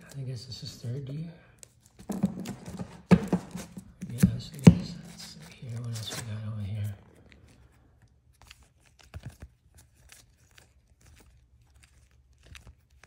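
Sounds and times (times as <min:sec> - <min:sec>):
trading cards rustling and clicking: 0:00.0 - 0:13.0.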